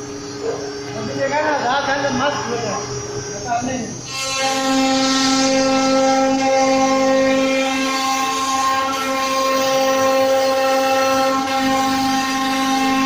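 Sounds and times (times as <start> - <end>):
router spindle motor whine: 0.0 - 13.0.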